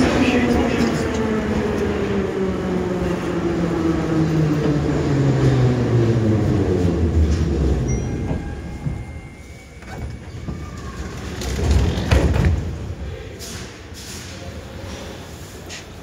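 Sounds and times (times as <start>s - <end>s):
wheel and rail rumble: 0.0s - 16.0s.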